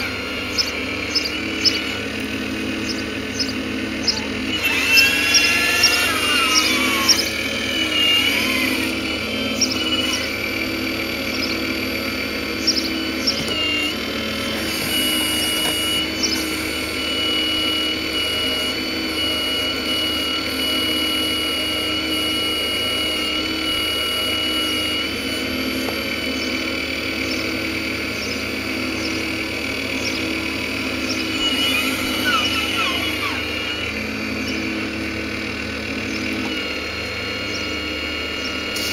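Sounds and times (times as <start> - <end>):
model excavator hydraulic whine: 0.0 - 38.9.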